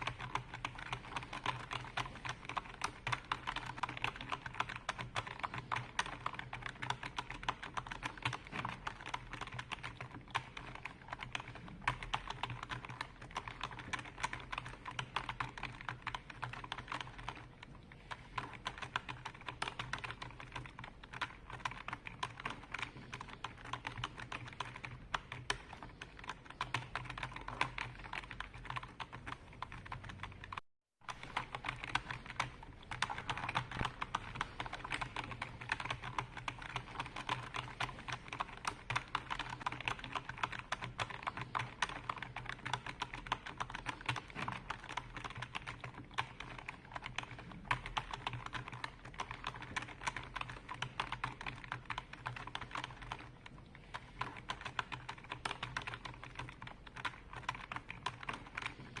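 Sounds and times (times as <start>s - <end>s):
fast typing on keyboard: 0.0s - 59.0s.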